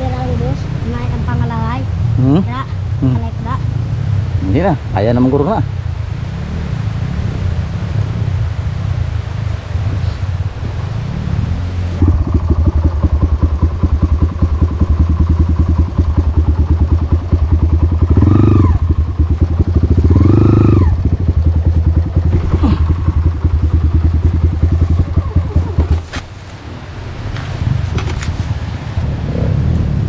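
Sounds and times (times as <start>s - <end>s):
dirt bike engine revving: 0.0s - 26.2s.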